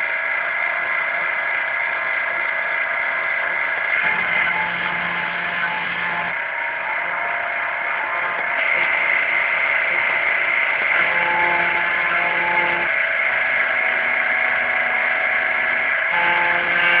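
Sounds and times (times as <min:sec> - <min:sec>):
motor tones shifting pitch: 0:00.0 - 0:17.0
router spindle whir: 0:00.0 - 0:17.0.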